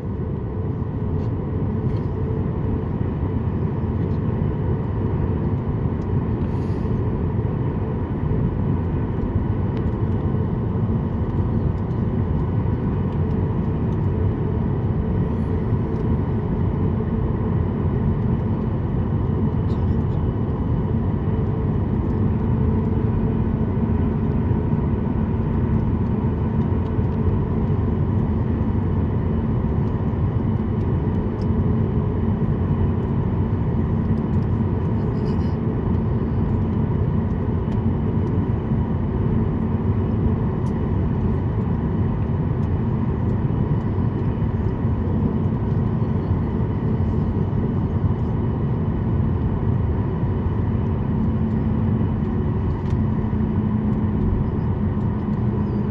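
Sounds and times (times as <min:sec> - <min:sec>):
jet engine cabin rumble: 0:00.0 - 0:55.9.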